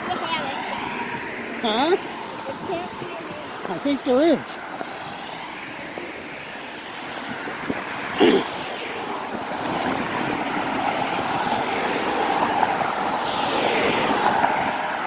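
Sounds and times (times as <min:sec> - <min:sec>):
cars passing on road: 0:00.0 - 0:15.0
minivan passing close: 0:00.0 - 0:15.0.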